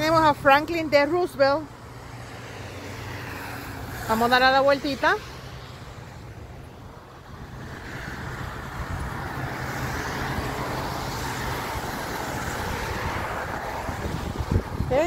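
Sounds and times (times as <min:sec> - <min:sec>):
cars passing on street: 0:00.0 - 0:15.0.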